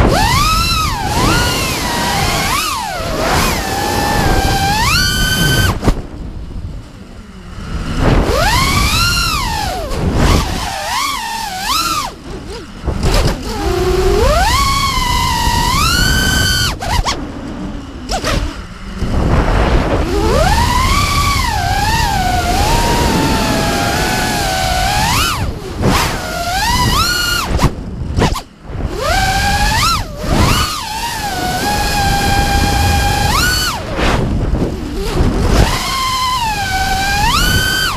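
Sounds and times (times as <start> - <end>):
quadcopter motors whining: 0.0 - 37.9
wind noise: 0.0 - 37.9.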